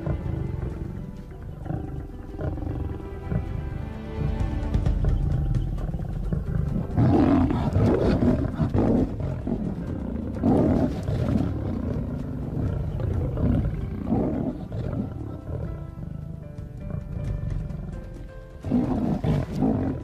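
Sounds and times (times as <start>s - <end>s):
lions snarling and growling: 0.0s - 20.0s.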